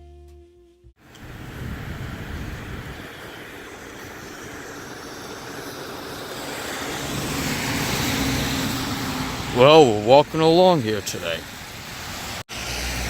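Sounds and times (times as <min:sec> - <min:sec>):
vehicle engine hum: 0:00.0 - 0:13.0
tyres hissing on road: 0:01.0 - 0:13.0.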